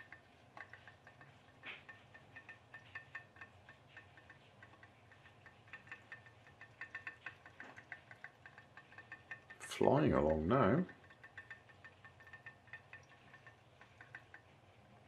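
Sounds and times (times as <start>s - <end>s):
pop-pop boat clicking: 0.0s - 14.6s.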